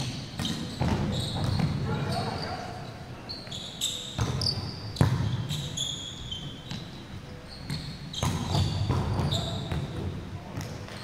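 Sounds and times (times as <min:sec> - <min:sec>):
sneakers squeaking on court floor: 0:00.0 - 0:11.0.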